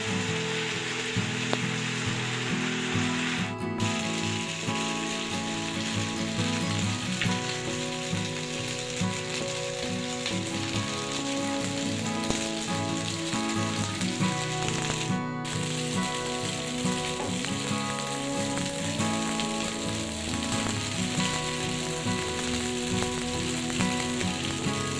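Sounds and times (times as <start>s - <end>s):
background music: 0.0s - 24.9s
food sizzling in a pan: 0.0s - 24.9s.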